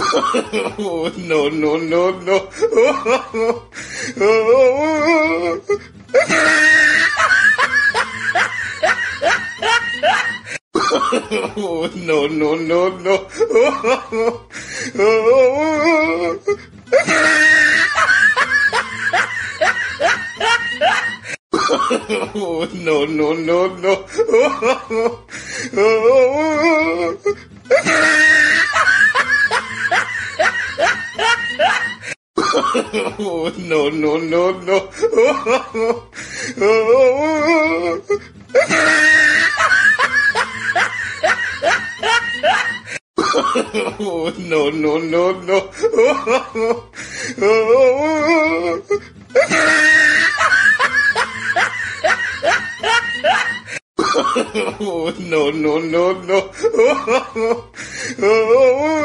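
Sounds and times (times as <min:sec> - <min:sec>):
person laughing hard: 0:00.0 - 0:01.5, 0:02.3 - 0:12.2, 0:13.1 - 0:23.0, 0:23.8 - 0:33.8, 0:34.8 - 0:44.6, 0:45.6 - 0:55.4, 0:56.4 - 0:59.0
comedy soundtrack music: 0:00.0 - 0:59.0.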